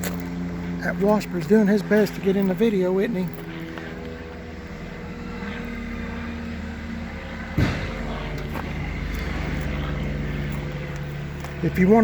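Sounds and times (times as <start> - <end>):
steady low drone: 0.0 - 12.0.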